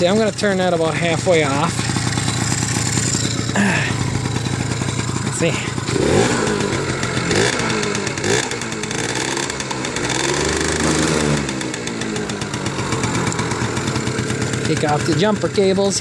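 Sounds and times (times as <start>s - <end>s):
moped engine revving: 0.0s - 16.0s.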